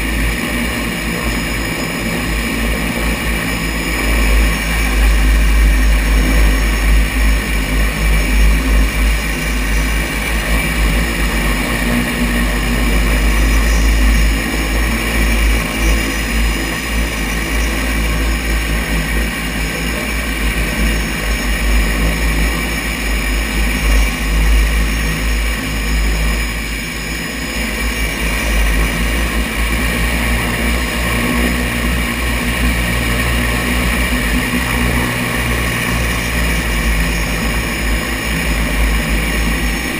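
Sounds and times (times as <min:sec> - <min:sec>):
seaplane engines and propellers: 0:00.0 - 0:39.9.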